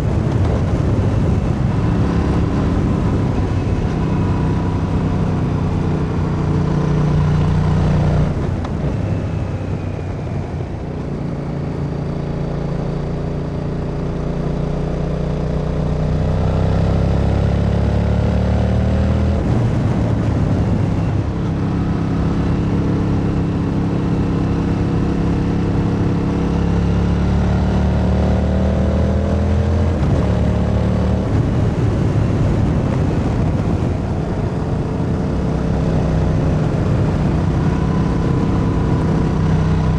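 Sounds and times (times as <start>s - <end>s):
motorcycle engine revving: 0.0s - 9.8s, 11.0s - 39.9s.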